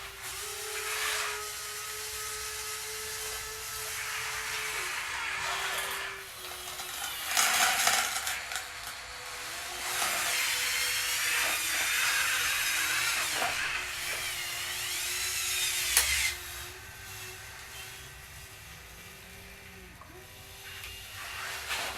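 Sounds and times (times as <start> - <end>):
small electric motors whining: 0.0 - 21.9.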